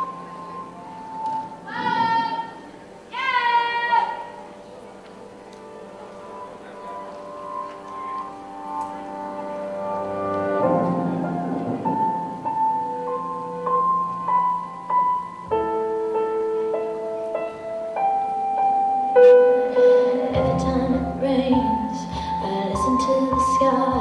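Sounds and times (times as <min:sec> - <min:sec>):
slow piano music: 0:00.0 - 0:03.2, 0:03.8 - 0:24.0.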